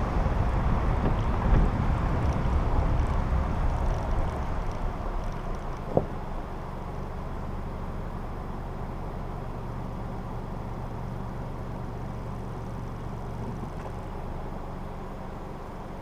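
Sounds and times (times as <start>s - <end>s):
road noise: 0.0s - 16.0s
vehicle engine hum: 0.0s - 16.0s.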